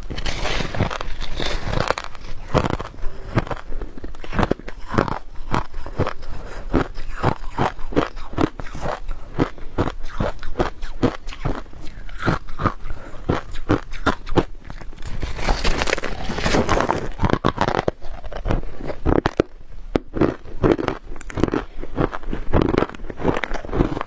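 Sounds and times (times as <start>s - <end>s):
crunching and chewing frost: 0.0s - 24.0s.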